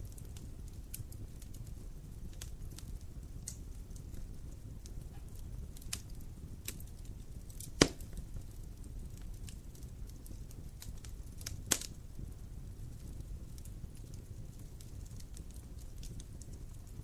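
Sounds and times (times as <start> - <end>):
sharp pops from burning wood: 0.0 - 17.0
wood fire crackling: 0.0 - 17.0.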